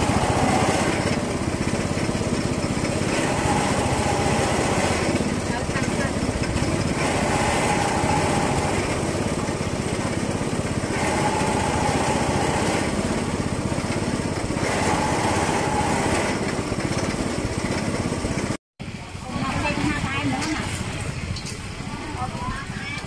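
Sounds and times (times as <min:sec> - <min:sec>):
small engine running: 0:00.0 - 0:21.2.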